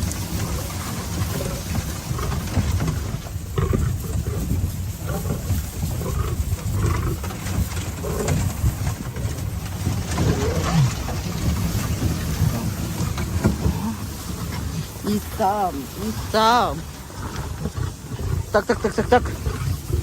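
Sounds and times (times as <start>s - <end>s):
lions growling: 0.0s - 20.0s
low rumble: 0.0s - 20.0s.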